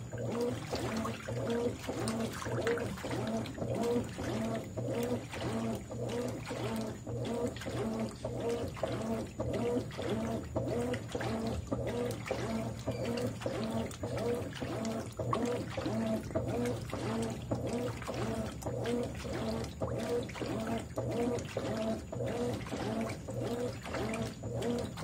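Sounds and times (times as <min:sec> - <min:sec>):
washing machine agitating: 0:00.0 - 0:25.0
water sloshing: 0:00.0 - 0:25.0.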